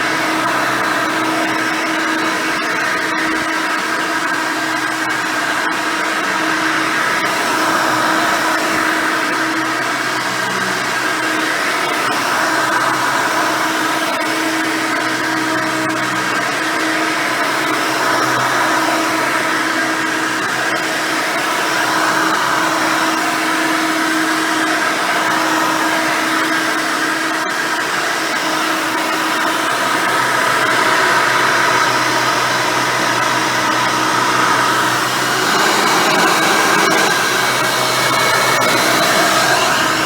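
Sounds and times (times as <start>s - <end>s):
upright vacuum cleaner running: 0.0s - 40.0s.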